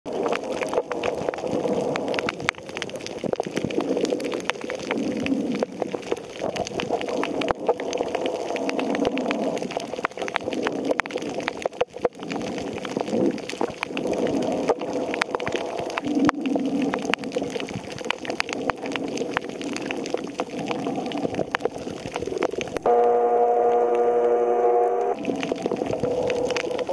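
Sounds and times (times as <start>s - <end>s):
sharp underwater clicks: 0.1s - 22.9s, 25.1s - 26.9s
muffled underwater rush: 0.1s - 26.9s.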